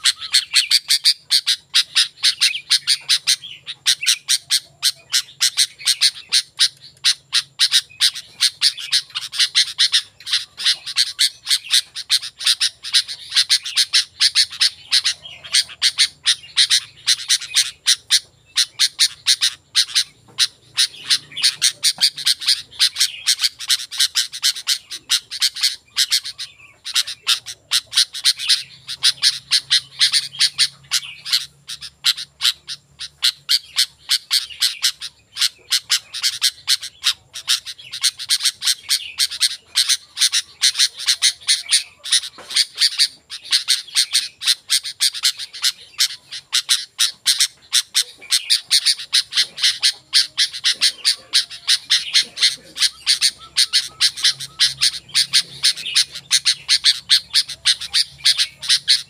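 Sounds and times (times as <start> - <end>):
bulbul singing chattering notes: 0.0 - 59.0.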